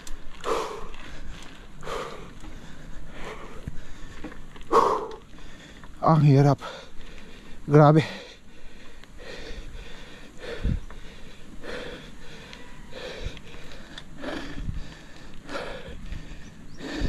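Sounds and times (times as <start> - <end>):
cyclist breathing hard: 0.0 - 17.0.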